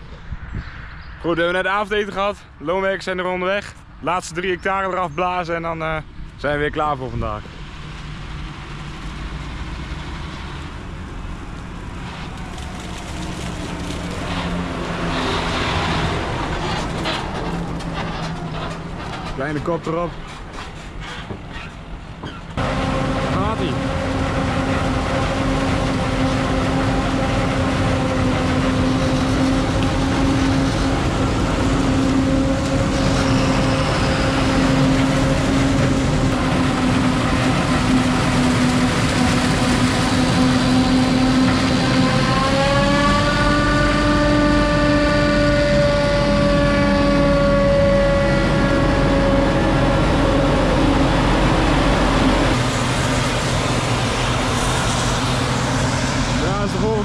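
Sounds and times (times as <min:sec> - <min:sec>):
harvester machine drone and whine: 0:00.0 - 0:57.0.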